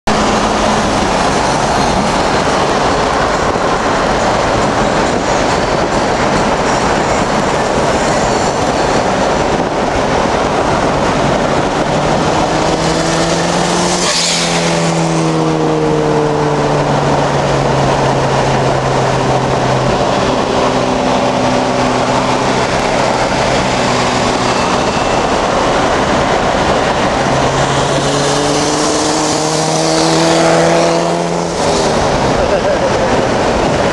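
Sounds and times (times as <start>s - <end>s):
passing car engine and exhaust: 0.0s - 33.9s
wind and road noise: 0.0s - 33.9s.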